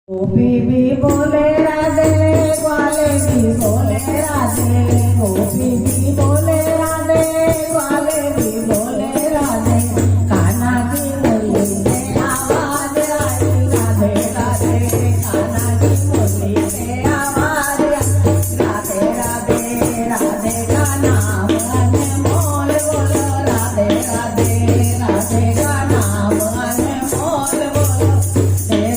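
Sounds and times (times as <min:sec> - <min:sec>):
shaker rattling percussion: 0:01.0 - 0:28.9.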